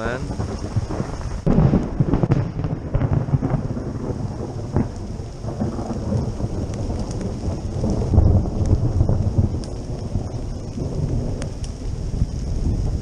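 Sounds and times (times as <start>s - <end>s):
heavy rain pouring: 0.0s - 13.0s
low rumble of thunder: 0.0s - 13.0s.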